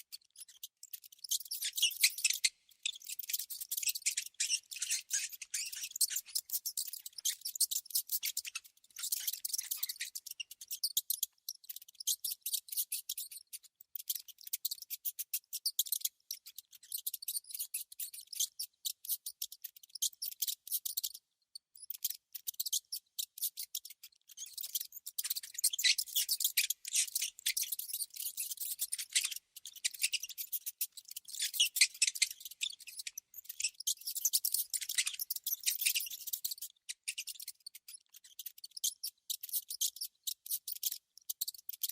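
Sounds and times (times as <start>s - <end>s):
rodent clicking and scratching: 0.1s - 21.2s, 21.8s - 41.9s.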